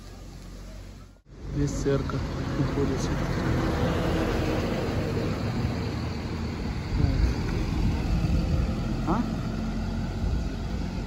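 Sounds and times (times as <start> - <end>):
low rumble of motor vehicles: 0.0 - 11.0.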